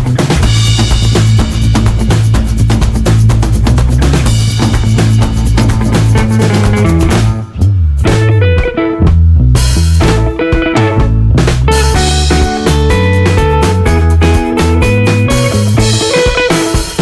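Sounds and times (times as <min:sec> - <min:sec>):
upbeat rock music: 0:00.0 - 0:17.0.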